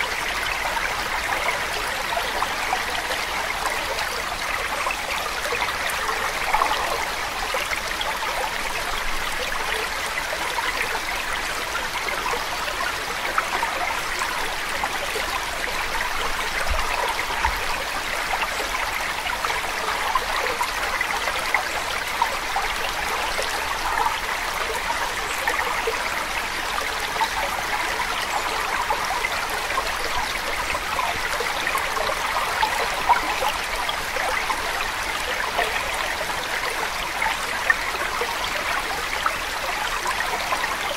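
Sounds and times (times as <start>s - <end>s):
stream running water: 0.0s - 40.9s.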